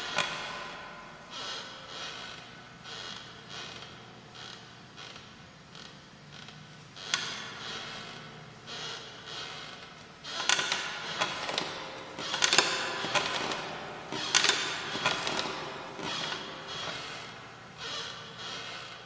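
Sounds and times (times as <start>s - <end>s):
creaking and scraping: 0.0s - 19.0s.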